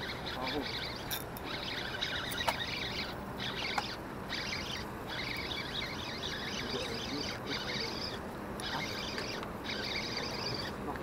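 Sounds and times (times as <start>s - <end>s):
birds chirping in chorus: 0.0s - 11.0s.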